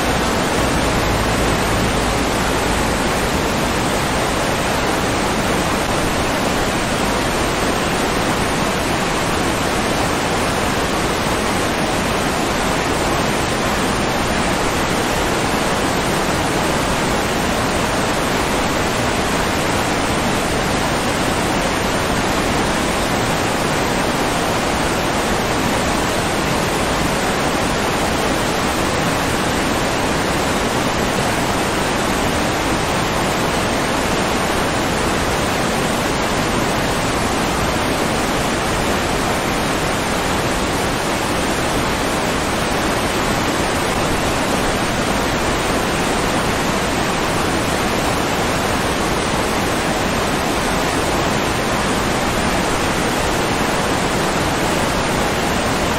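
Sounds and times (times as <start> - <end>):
rushing water: 0.0 - 55.9.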